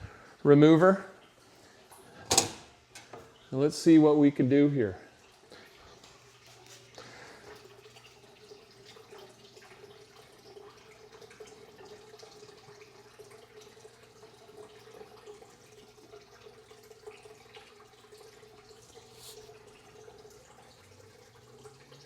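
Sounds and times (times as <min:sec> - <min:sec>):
liquid dripping: 0:00.9 - 0:22.0.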